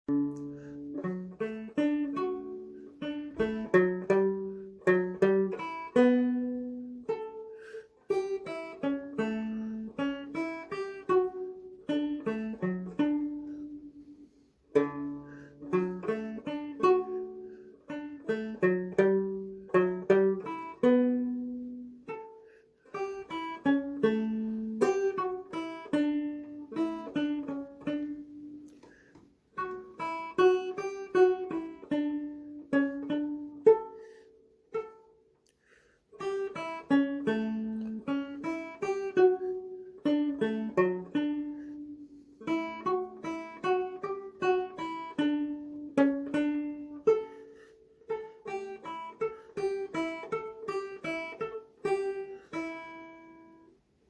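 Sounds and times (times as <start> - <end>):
banjo playing a waltz: 0.0 - 54.0.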